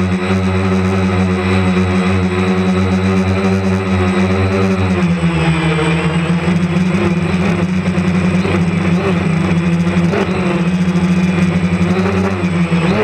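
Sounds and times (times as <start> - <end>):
drone motors buzzing: 0.0 - 13.0.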